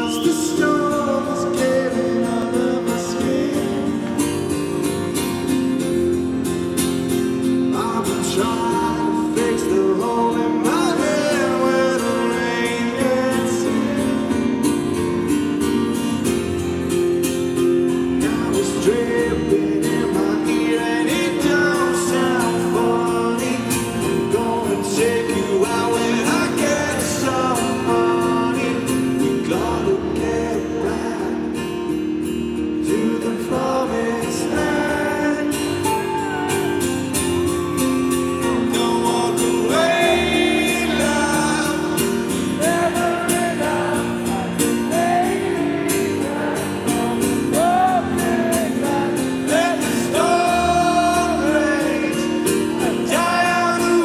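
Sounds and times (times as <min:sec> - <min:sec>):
man singing: 0:00.0 - 0:04.5, 0:07.3 - 0:15.9, 0:17.8 - 0:54.0
strummed acoustic guitar: 0:00.0 - 0:54.0.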